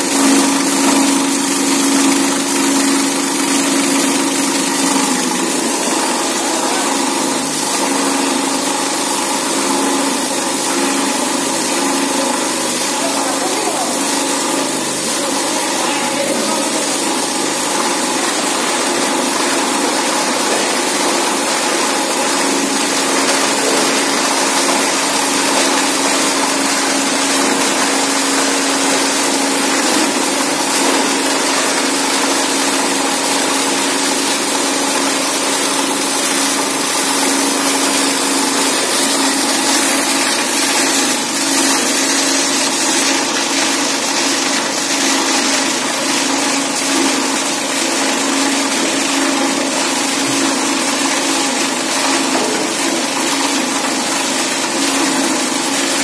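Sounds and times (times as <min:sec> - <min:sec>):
bottle grinder running: 0:00.0 - 0:56.0.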